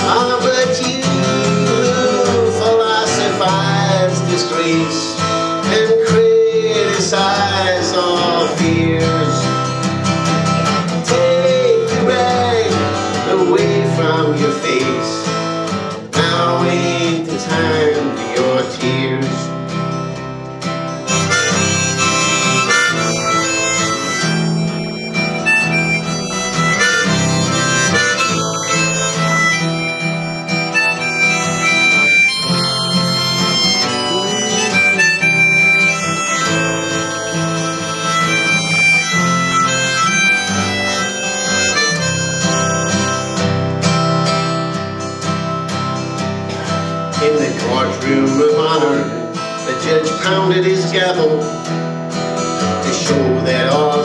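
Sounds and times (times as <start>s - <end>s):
harmonica playing: 0.0s - 54.0s
strummed acoustic guitar: 0.0s - 54.0s.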